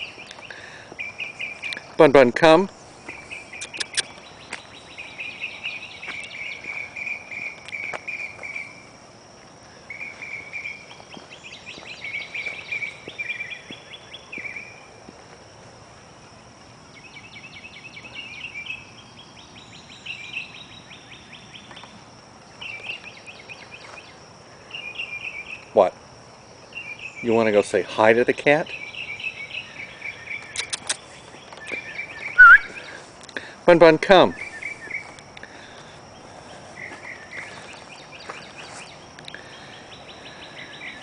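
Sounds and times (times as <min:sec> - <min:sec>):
insects pulsed chirping: 0:00.0 - 0:41.0.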